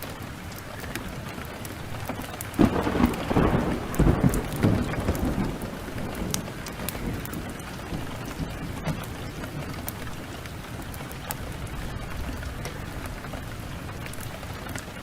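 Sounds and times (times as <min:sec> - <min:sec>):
heavy rain pouring: 0:00.0 - 0:15.0
thunder clap rumbling: 0:00.0 - 0:15.0
wood fire crackling: 0:00.0 - 0:15.0.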